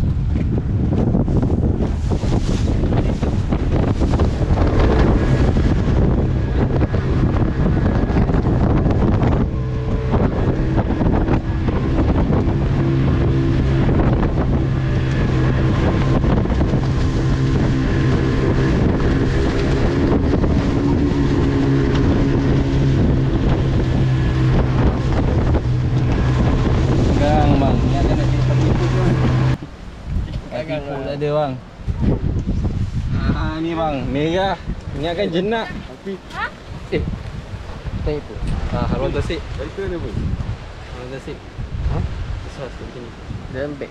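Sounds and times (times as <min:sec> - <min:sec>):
boat motor running: 0:00.0 - 0:43.9
wind buffeting microphone: 0:00.0 - 0:43.9.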